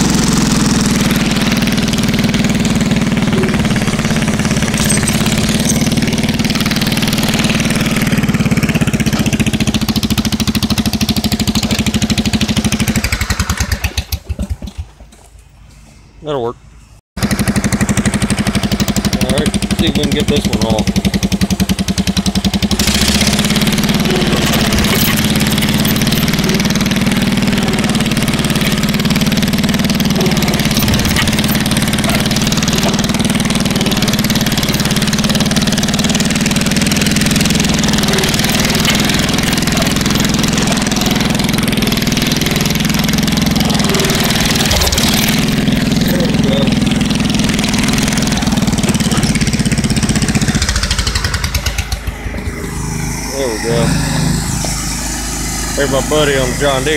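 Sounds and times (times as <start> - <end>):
riding lawn mower engine: 0.0 - 15.9, 17.2 - 56.9.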